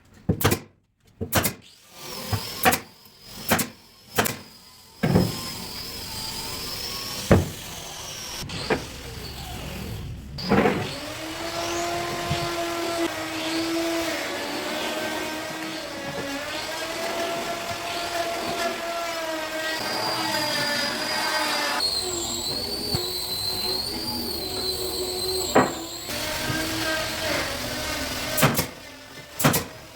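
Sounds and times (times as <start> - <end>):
electric power tool whining: 1.8 - 29.9.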